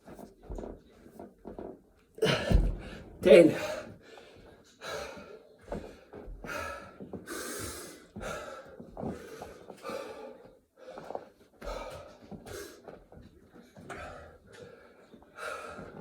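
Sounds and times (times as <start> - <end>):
man breathing hard: 2.2 - 13.0, 13.8 - 16.0.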